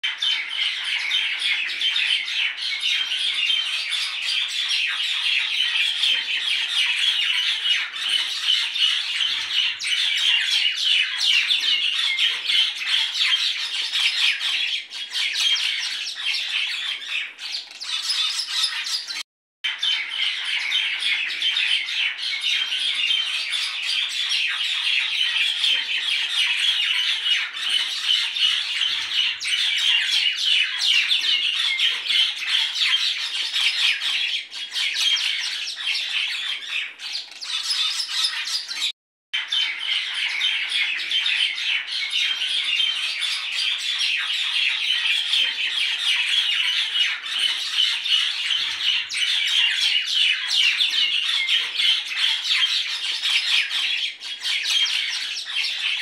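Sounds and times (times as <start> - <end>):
flock of birds chattering: 0.1 - 56.0.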